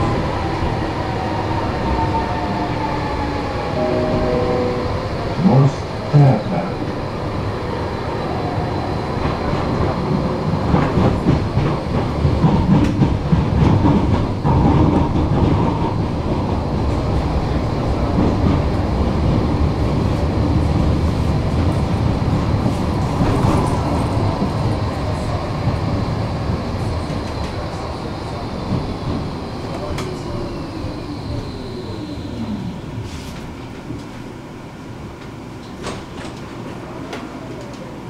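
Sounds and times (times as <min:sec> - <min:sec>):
tram wheels rumbling on rail: 0:00.0 - 0:38.0.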